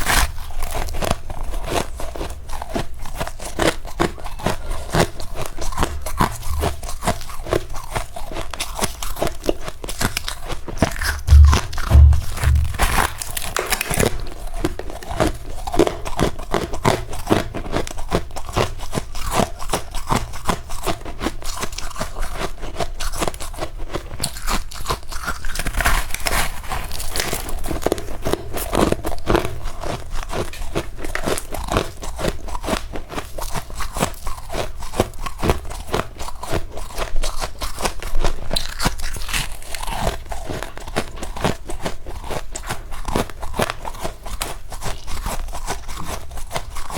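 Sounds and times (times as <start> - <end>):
chewing frost ice: 0.0 - 11.2, 15.6 - 46.9.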